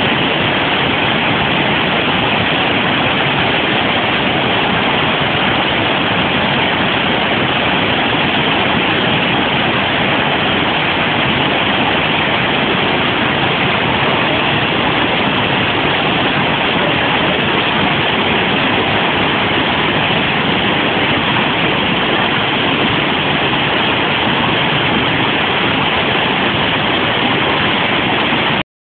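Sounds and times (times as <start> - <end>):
river water rushing over rocks: 0.0 - 28.6.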